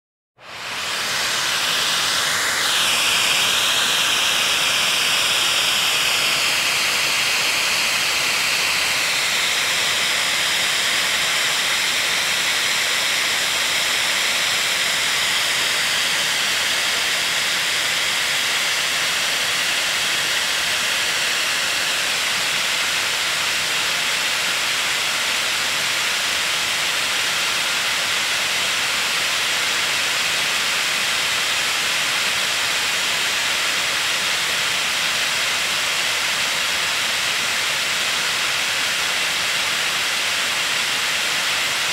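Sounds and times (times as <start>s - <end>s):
vacuum cleaner running: 0.4s - 41.9s.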